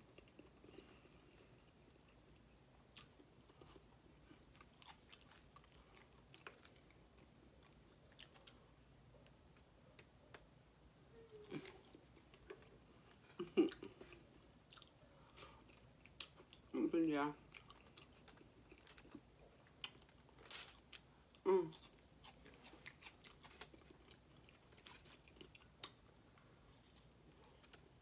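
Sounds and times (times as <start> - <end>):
person chewing food: 0.0 - 10.4, 11.4 - 16.7, 17.4 - 28.0.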